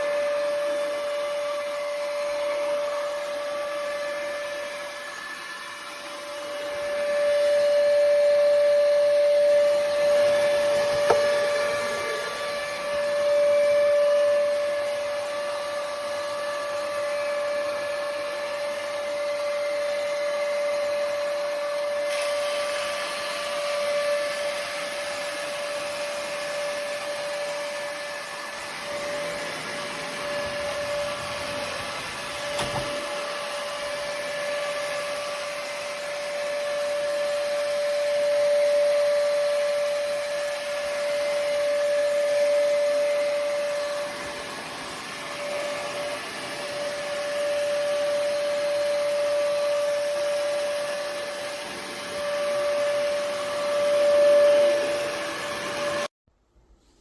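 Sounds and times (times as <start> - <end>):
robot vacuum running: 0.0 - 56.1.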